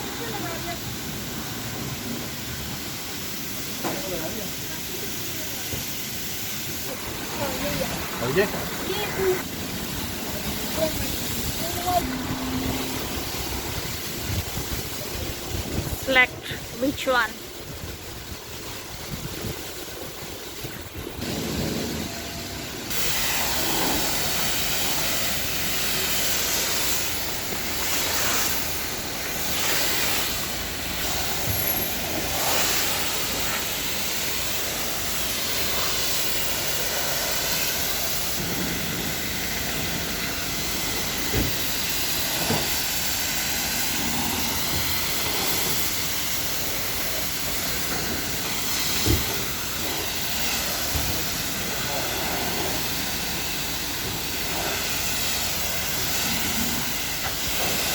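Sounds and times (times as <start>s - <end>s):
high-pressure spray wand hissing: 0.2s - 57.9s.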